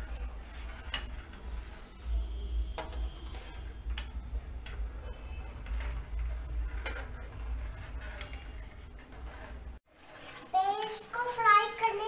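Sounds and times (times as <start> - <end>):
metal spatula scraping a wok: 0.0 - 11.4.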